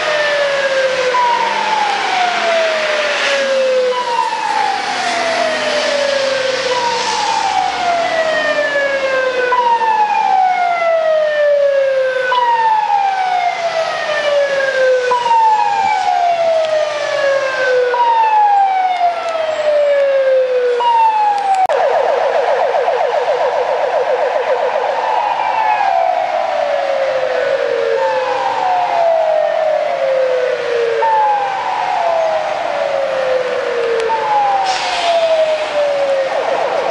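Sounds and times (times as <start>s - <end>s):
ambulance siren: 0.0s - 36.9s.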